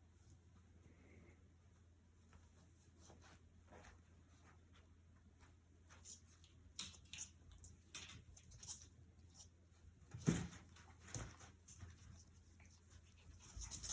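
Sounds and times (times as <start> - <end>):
puppies scuffling and pattering: 2.1 - 13.9.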